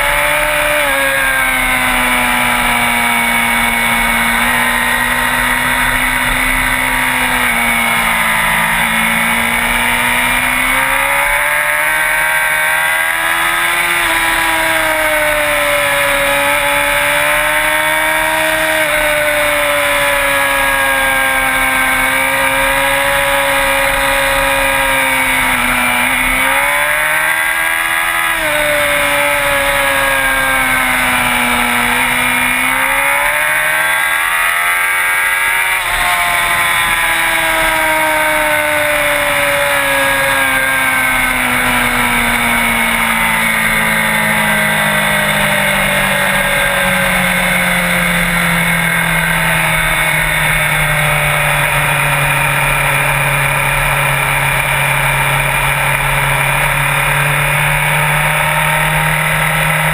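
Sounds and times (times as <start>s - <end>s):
sport bike engine revving: 0.0s - 59.9s.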